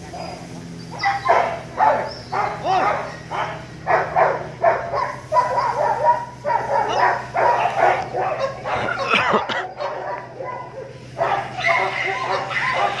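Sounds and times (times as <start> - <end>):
dog yapping: 0.1 - 13.0.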